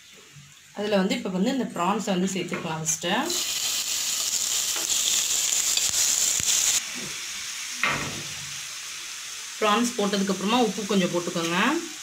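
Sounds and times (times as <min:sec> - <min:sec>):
prawns sizzling in oil: 0:00.0 - 0:12.0.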